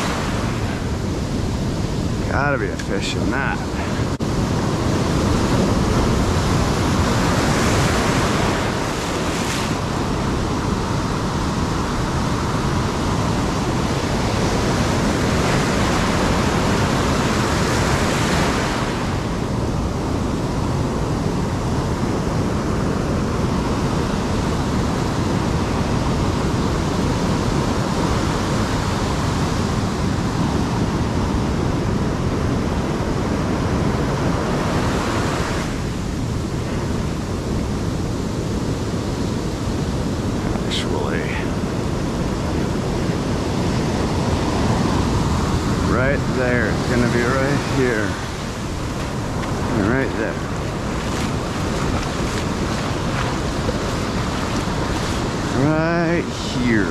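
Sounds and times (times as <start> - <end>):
waves breaking: 0.0 - 56.9.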